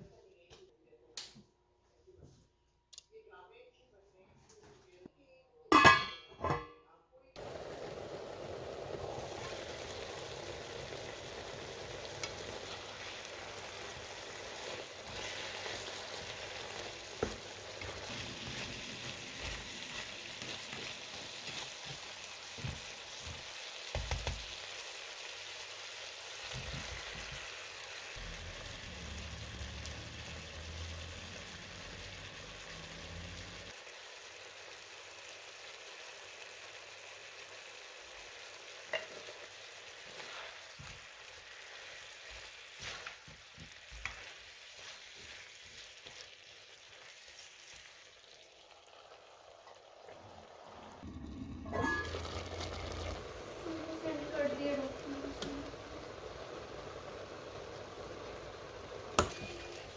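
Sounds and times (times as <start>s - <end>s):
food sizzling in frying pan: 7.4s - 59.9s.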